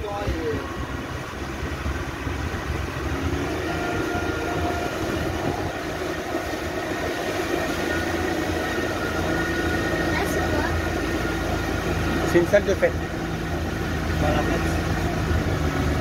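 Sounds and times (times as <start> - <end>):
motorboat engine running: 0.0 - 16.0
water rushing along hull: 0.0 - 16.0.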